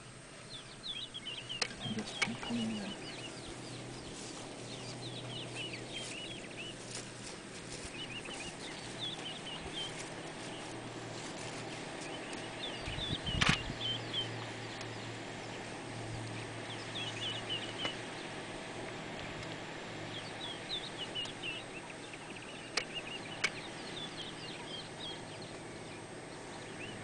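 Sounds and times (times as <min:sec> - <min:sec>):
low hum: 0:00.0 - 0:27.0
small birds chirping: 0:00.0 - 0:27.0.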